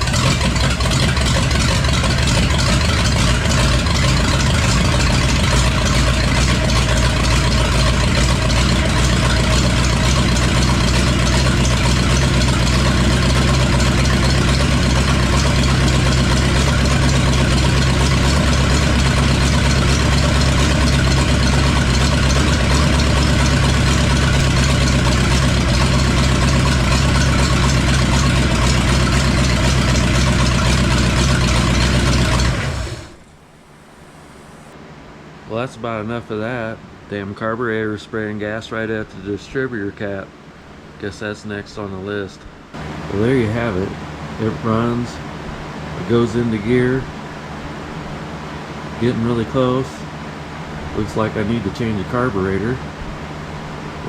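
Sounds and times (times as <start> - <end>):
truck engine idling: 0.0 - 37.6, 41.8 - 54.0.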